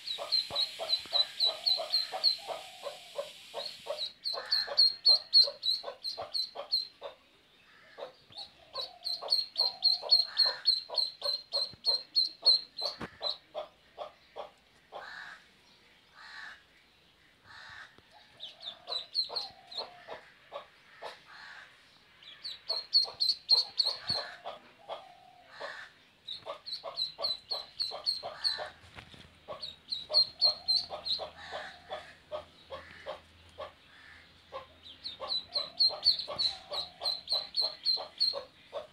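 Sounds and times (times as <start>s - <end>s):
duckling peeping: 0.0s - 7.2s, 8.0s - 15.1s, 18.4s - 21.2s, 22.2s - 25.0s, 25.6s - 28.8s, 29.4s - 38.9s.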